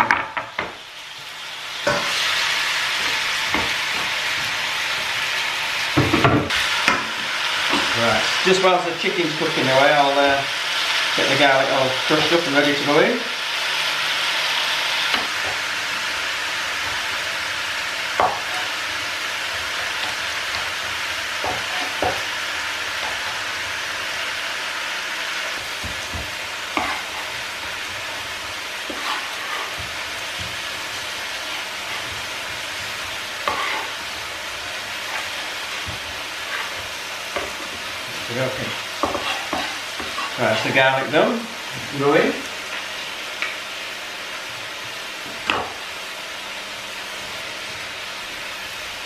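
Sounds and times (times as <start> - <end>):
chicken sizzling in oil: 0.0 - 49.0.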